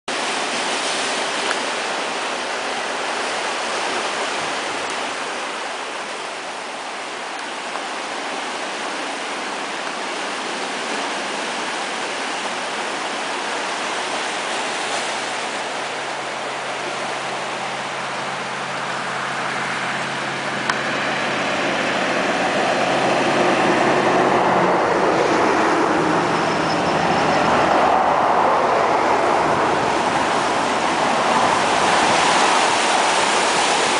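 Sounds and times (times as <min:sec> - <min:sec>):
surf breaking over rocks: 0:00.1 - 0:33.9.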